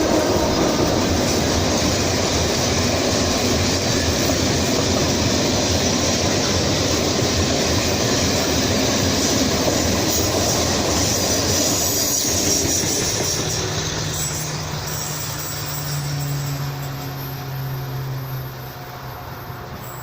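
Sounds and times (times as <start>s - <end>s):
high wheel squeal: 0.0s - 20.0s
train wagons clickety-clack: 0.0s - 20.0s.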